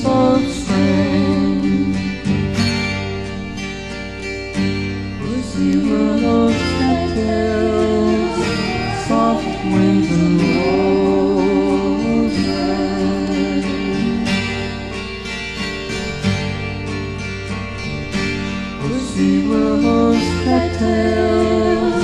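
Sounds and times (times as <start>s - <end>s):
acoustic guitars strumming: 0.0s - 22.0s
bass guitar: 0.0s - 22.0s.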